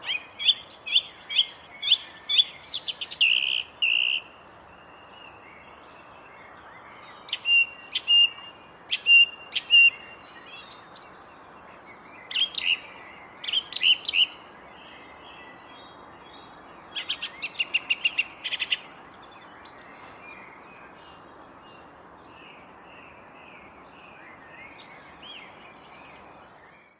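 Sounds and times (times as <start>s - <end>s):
faint background hiss: 0.0s - 26.9s
songbird chirping: 0.0s - 26.9s.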